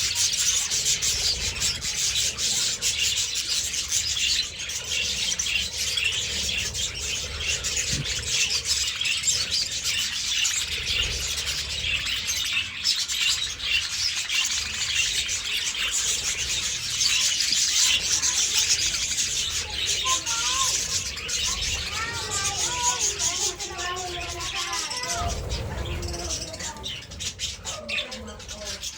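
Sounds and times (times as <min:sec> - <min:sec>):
budgerigars chattering: 0:00.0 - 0:28.9.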